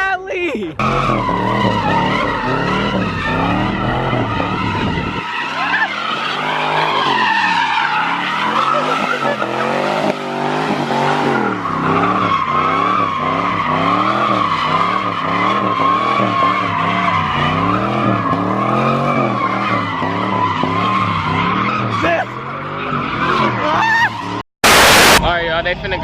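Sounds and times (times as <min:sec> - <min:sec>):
tyres squealing: 0:00.8 - 0:24.4
car engine revving: 0:00.8 - 0:25.2.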